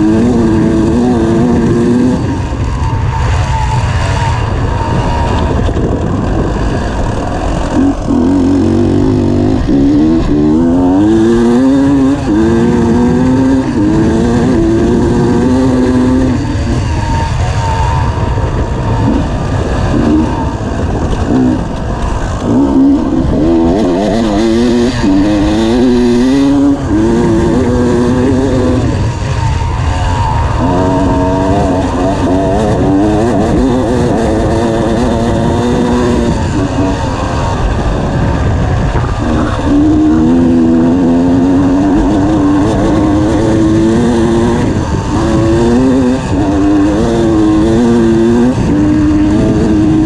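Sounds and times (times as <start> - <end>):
motorcycle engine revving: 0.0 - 50.0
wind rumble on microphone: 0.0 - 50.0.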